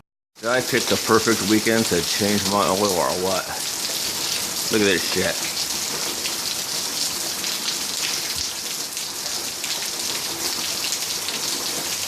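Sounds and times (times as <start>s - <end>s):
heavy rain falling: 0.4s - 12.0s.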